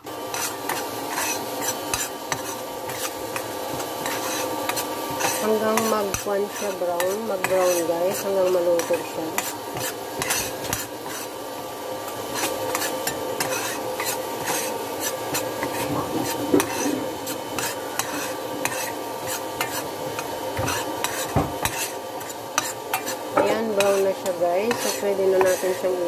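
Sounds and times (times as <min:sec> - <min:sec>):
spoon scraping coconut in pan: 0:00.3 - 0:11.4, 0:12.0 - 0:26.0.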